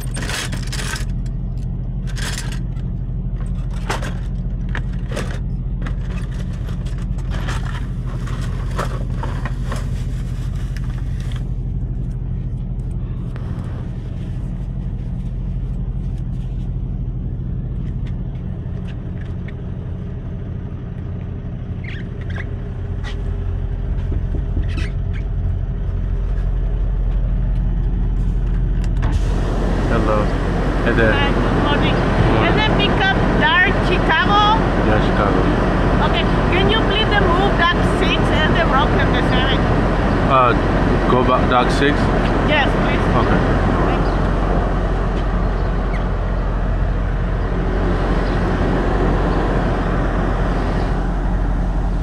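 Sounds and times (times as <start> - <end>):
low hum in truck cab: 0.0 - 52.0.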